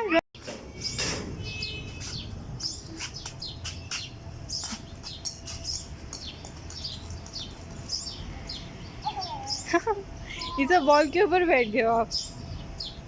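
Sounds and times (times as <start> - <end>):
small birds chirping: 0.7 - 13.0.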